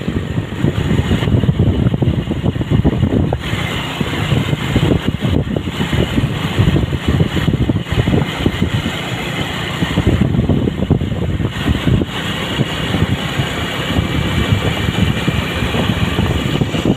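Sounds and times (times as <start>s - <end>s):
vehicle engine and road noise: 0.0s - 16.9s.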